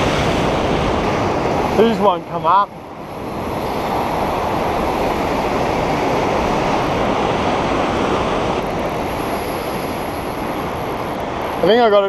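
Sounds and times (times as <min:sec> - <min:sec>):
surf breaking on rocks: 0:00.0 - 0:12.0.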